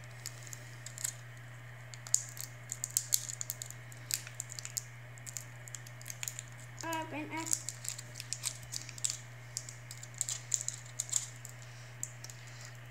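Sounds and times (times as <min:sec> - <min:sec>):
candy wrapper crinkling: 0:00.0 - 0:12.9.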